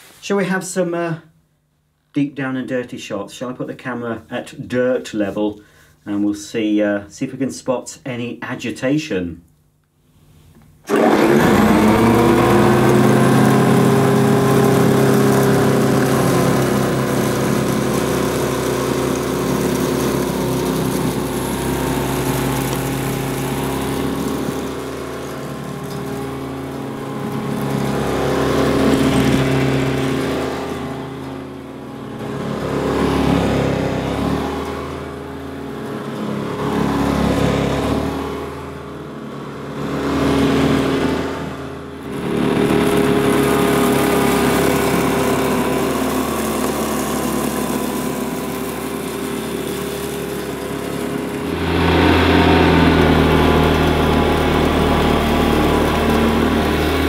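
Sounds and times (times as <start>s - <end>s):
upright vacuum cleaner motor: 10.6s - 57.0s.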